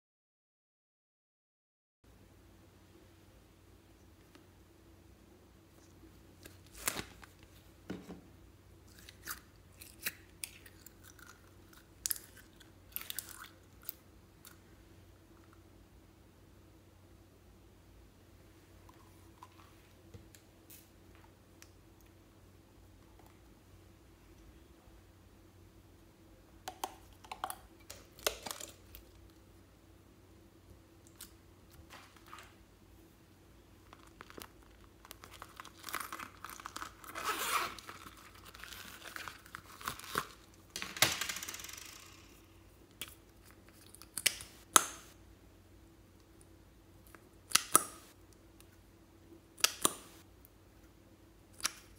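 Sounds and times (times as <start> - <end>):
faint steady hum: 2.1 - 51.9.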